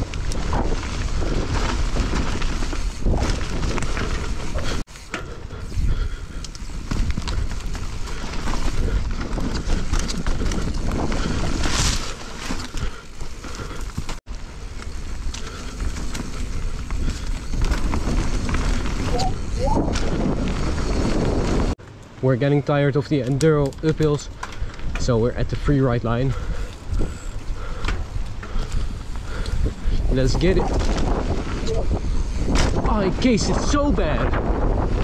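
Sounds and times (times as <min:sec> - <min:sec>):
wind rushing over microphone: 0:00.0 - 0:21.8, 0:23.7 - 0:35.0
tyres on dirt: 0:00.0 - 0:34.9
bike rattling and clicking: 0:00.0 - 0:35.0.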